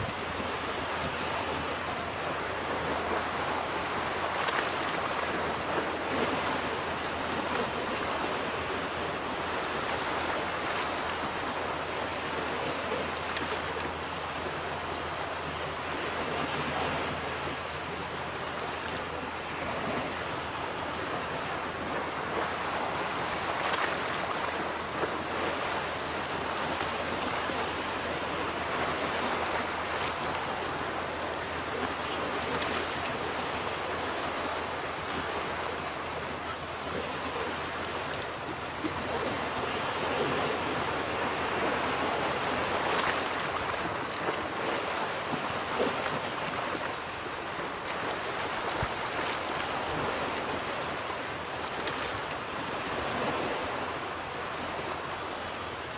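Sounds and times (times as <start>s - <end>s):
ocean waves washing on beach: 0.0s - 55.9s.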